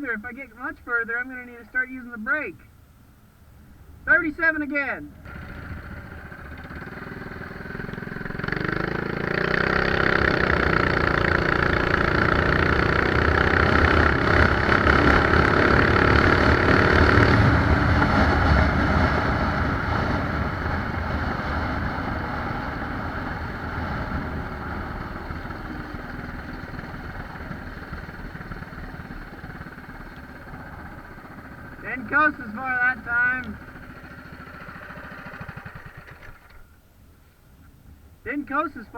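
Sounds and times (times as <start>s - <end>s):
mini bike engine revving: 5.2s - 36.7s.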